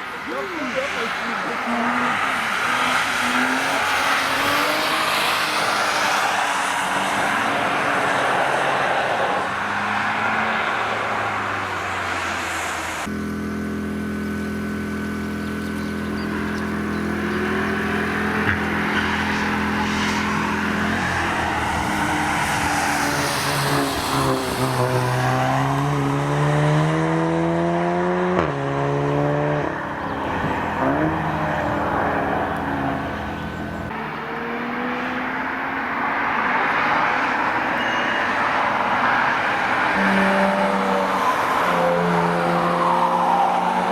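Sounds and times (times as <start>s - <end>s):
race car engine revving: 0.0s - 37.8s.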